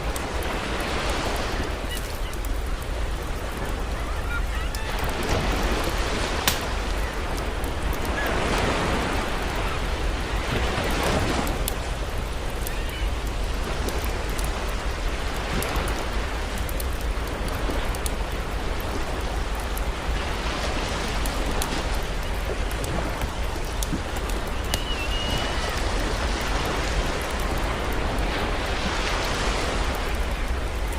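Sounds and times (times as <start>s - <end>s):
campfire crackling and popping: 0.0s - 30.9s
sea waves washing: 0.0s - 30.9s.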